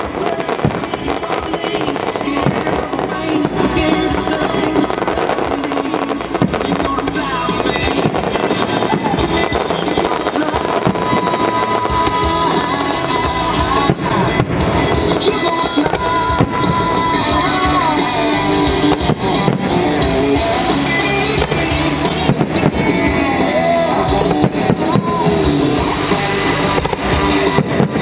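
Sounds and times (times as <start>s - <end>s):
fireworks bursting: 0.0s - 28.0s
loud music: 0.0s - 28.0s.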